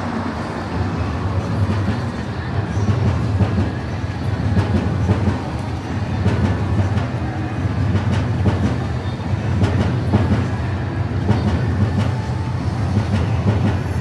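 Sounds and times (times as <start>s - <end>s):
train rumbling on rails: 0.0s - 14.0s
wheels clicking over track: 0.0s - 14.0s.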